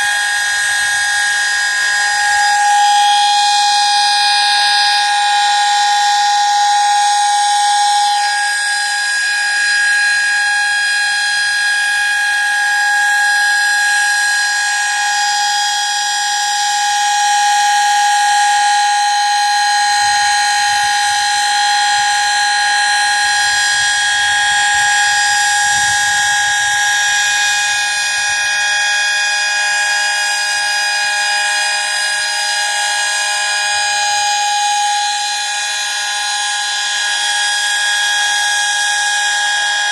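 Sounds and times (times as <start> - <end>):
fire siren holding steady chord: 0.0 - 39.9.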